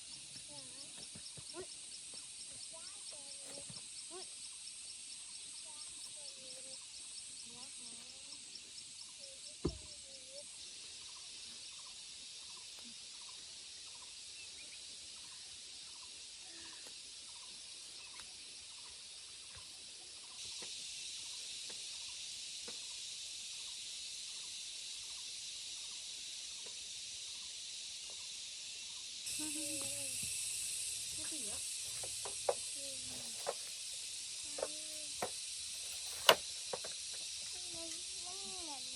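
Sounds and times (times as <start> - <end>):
high-pitched outdoor hiss: 0.0 - 38.9.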